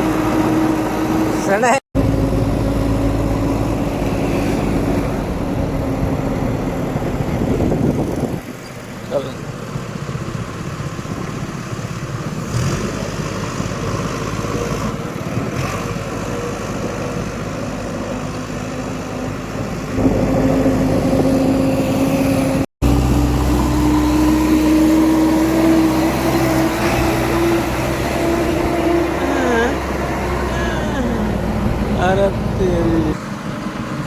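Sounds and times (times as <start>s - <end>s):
diesel engine revving: 0.0s - 34.0s.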